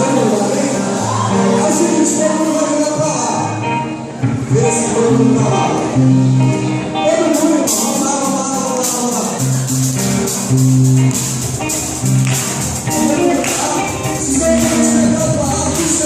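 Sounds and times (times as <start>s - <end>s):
strummed guitar: 0.0s - 16.0s
sustained bass notes: 0.0s - 16.0s.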